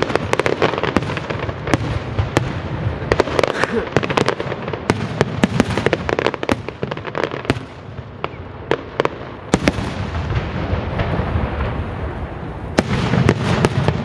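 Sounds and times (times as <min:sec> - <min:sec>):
fireworks cracking and popping: 0:00.0 - 0:14.0
fireworks rumble: 0:00.0 - 0:14.0.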